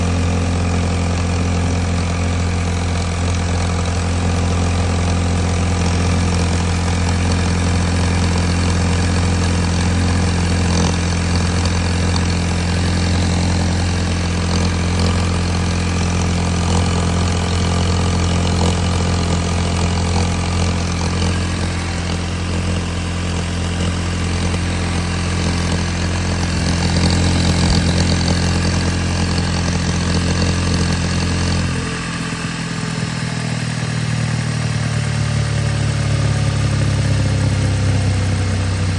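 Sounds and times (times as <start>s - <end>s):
car engine running: 0.0s - 38.9s
light engine clacking: 0.3s - 35.0s.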